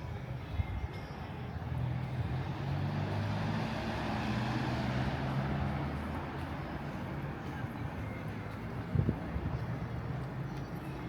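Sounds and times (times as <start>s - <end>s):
vehicle engine hum: 1.3s - 11.0s.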